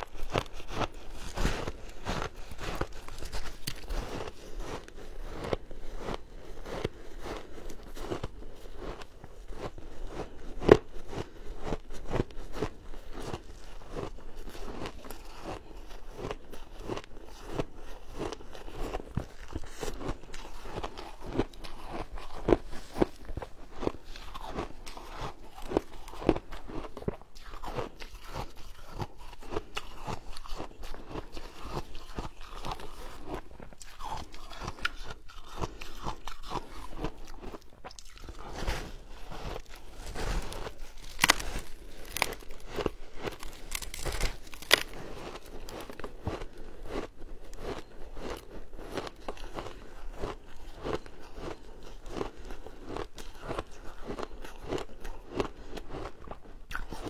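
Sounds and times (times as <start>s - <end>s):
person crunching ice: 0.0s - 57.0s.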